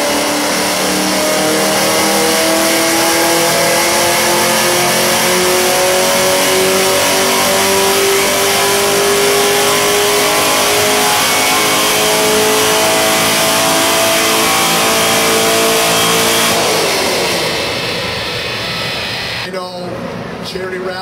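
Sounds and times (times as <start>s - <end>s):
car engine at full throttle: 0.0s - 19.5s.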